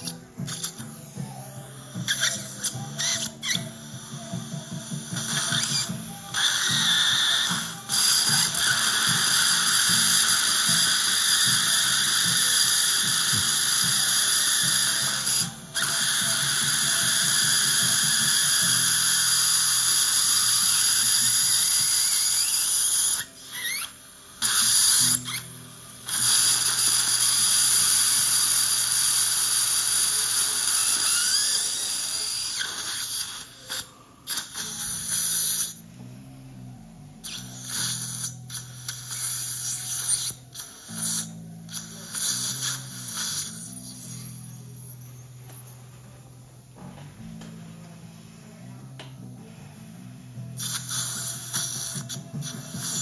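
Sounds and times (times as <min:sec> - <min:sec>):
dental drill whining: 0:00.0 - 0:35.9, 0:37.2 - 0:46.6, 0:50.5 - 0:53.0.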